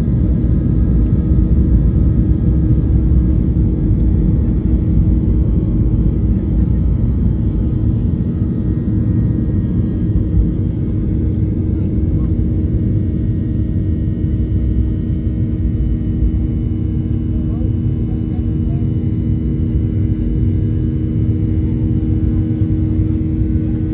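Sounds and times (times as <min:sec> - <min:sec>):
jet engines droning in flight: 0:00.0 - 0:23.9.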